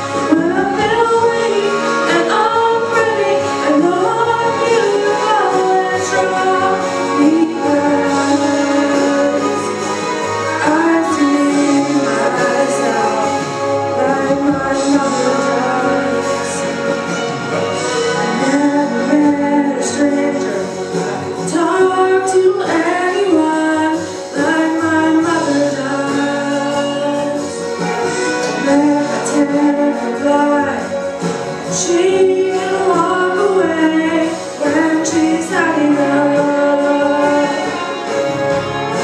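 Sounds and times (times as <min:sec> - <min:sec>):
instrumental backing music: 0:00.0 - 0:39.0
woman singing a slow ballad: 0:00.2 - 0:17.2, 0:18.2 - 0:27.8, 0:28.5 - 0:31.0, 0:31.6 - 0:38.1.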